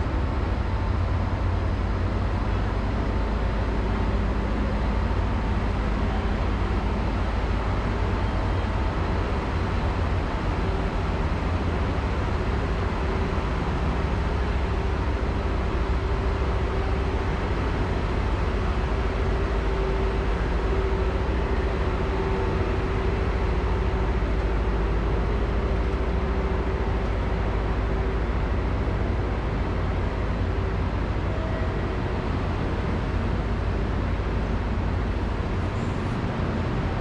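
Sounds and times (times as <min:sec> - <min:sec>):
electric train equipment humming: 0:00.0 - 0:37.0.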